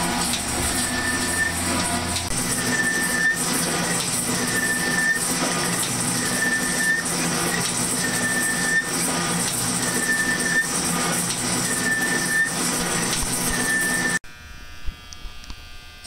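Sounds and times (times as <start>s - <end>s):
metal shaper ram stroking: 0.0s - 14.2s
high tone of tool cutting metal: 0.0s - 15.3s.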